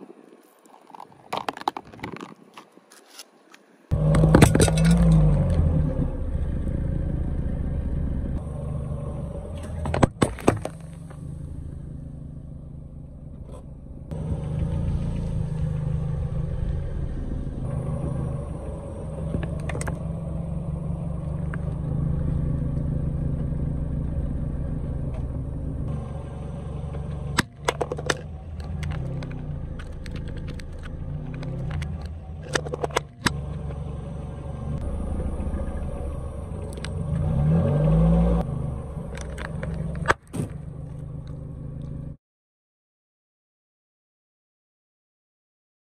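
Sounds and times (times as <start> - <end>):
car engine low hum: 3.9 - 42.2.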